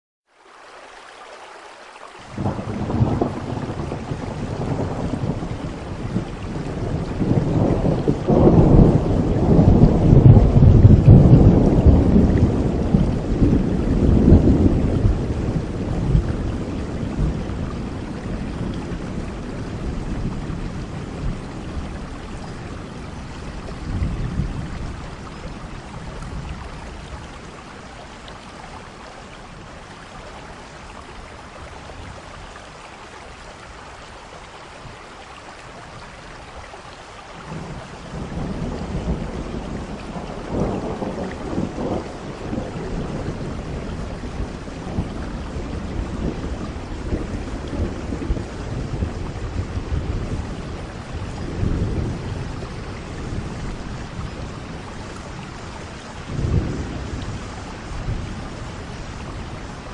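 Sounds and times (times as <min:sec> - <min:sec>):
steady rain: 0:00.2 - 0:59.9
thunder rumbling: 0:02.4 - 0:32.6, 0:37.4 - 0:59.9.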